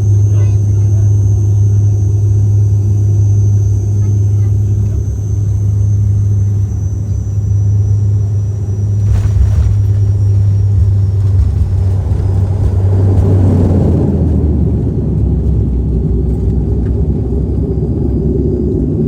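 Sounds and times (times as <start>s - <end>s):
airliner propeller cabin drone: 0.0s - 19.0s.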